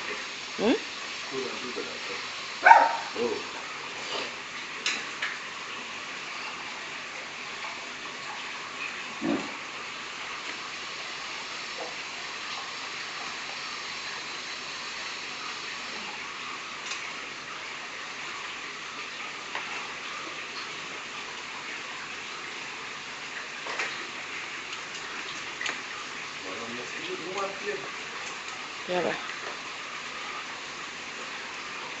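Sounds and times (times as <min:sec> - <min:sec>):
aquarium filter water rushing: 0:00.0 - 0:32.0.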